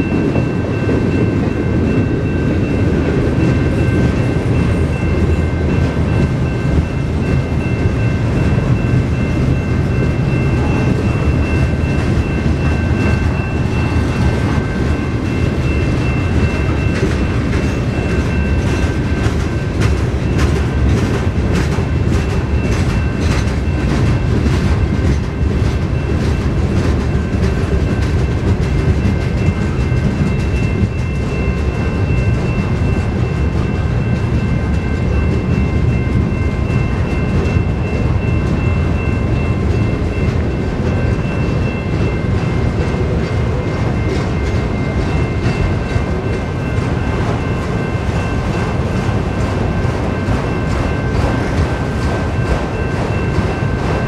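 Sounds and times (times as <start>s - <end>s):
freight train rumbling: 0.0s - 54.0s
high ringing tones: 0.0s - 54.0s
train wheel clicks: 3.4s - 54.0s.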